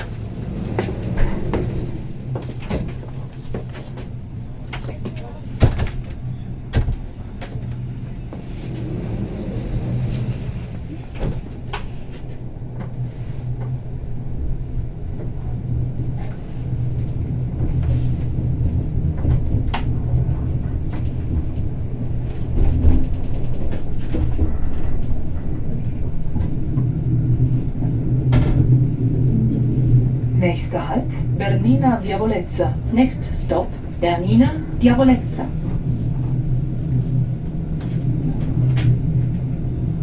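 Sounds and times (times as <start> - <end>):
train rumbling inside carriage: 0.0 - 40.0.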